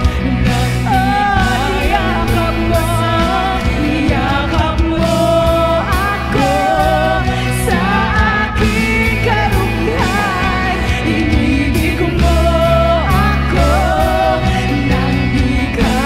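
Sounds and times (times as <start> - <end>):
acoustic guitar: 0.0 - 16.0
drum kit: 0.0 - 16.0
women singing in unison: 0.0 - 16.0.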